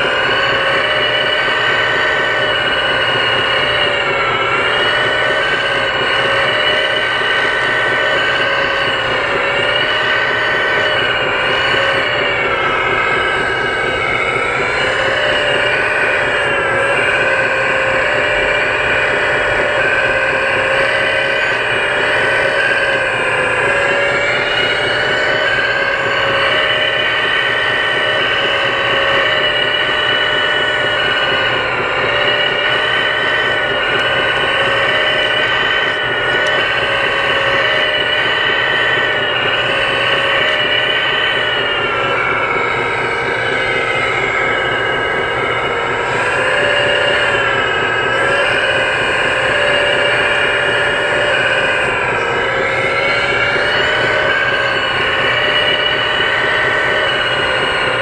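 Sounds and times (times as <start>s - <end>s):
hydraulic pump whining: 0.0s - 58.0s.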